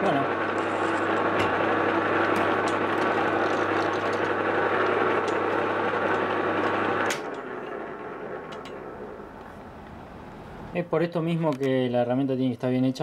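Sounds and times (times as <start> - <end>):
lathe motor hum: 0.0 - 10.8.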